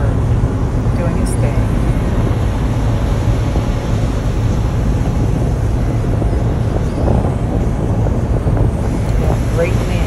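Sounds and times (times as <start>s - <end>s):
surf washing on shore: 0.0s - 10.0s
wind buffeting microphone: 0.0s - 10.0s.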